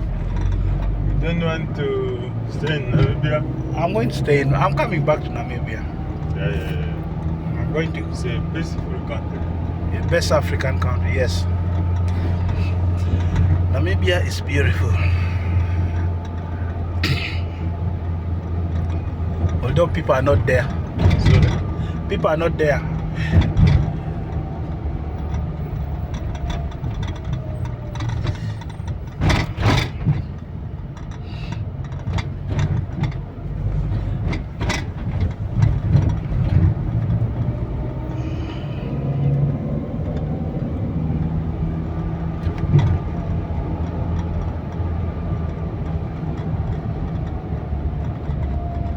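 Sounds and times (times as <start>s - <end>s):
engine and road rumble: 0.0s - 48.9s.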